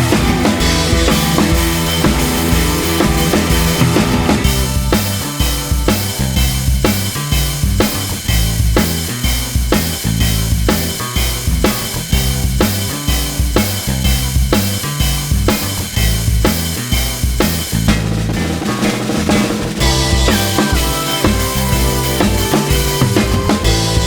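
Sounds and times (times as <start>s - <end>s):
bass line: 0.0s - 24.0s
drum-kit beat: 0.0s - 24.0s.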